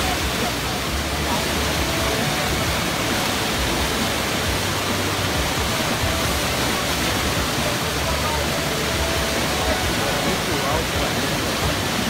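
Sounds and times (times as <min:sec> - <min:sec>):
small waterfall rushing: 0:00.0 - 0:12.0.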